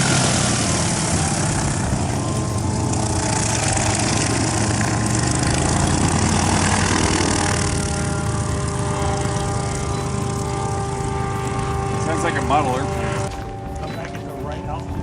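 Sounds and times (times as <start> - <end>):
light aircraft engine humming: 0.0 - 15.0.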